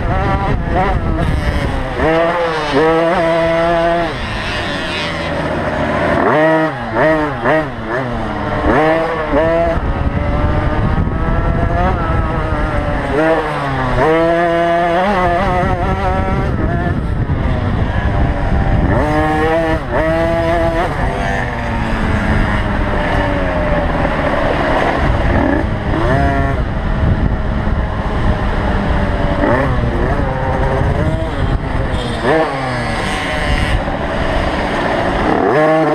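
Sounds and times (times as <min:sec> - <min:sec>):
motocross bikes revving: 0:00.0 - 0:35.9.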